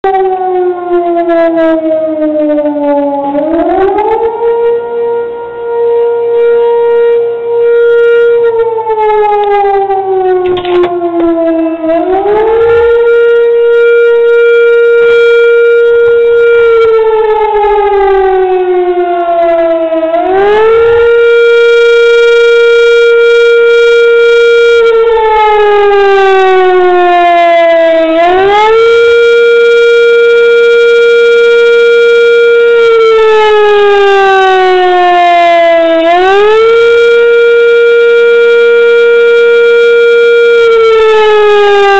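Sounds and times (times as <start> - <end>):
siren wailing: 0.0 - 41.9.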